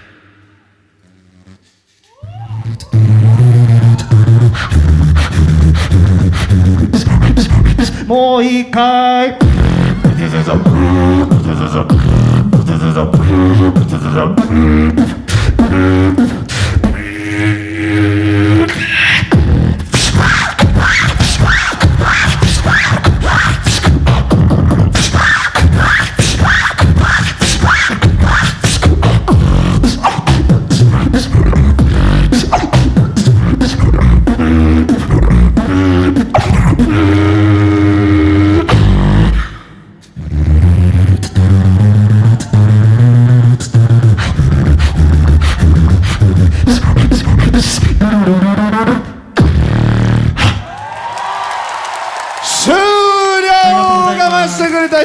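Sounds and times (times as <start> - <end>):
person beatboxing: 0.0 - 50.8, 52.7 - 55.0.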